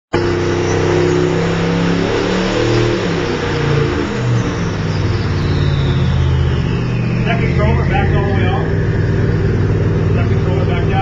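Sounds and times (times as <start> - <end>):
engine running on a dynamometer: 0.1 - 11.0.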